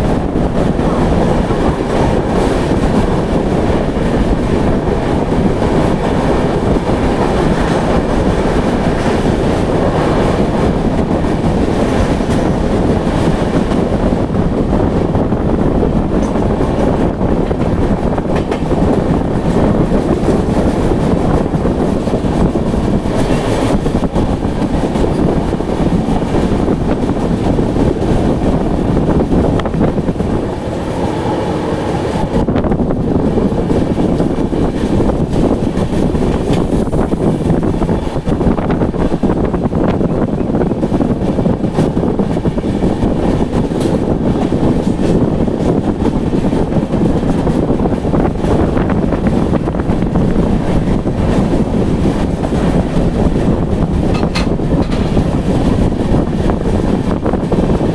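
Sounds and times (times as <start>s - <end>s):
train rumbling and rattling: 0.0s - 57.9s.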